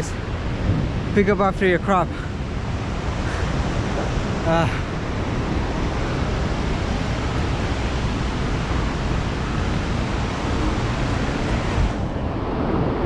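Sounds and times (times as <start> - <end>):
wind buffeting microphone: 0.0 - 13.0
waterfall rushing hiss: 1.1 - 12.0.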